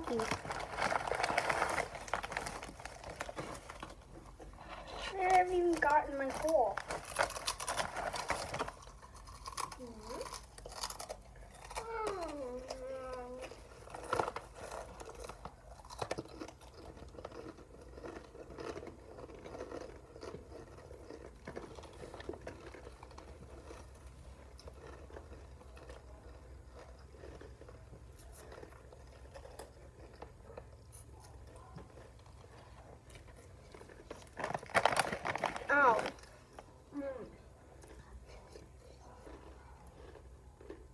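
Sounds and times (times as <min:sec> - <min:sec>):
chips being crunched and chewed: 0:00.0 - 0:36.8, 0:37.6 - 0:40.9.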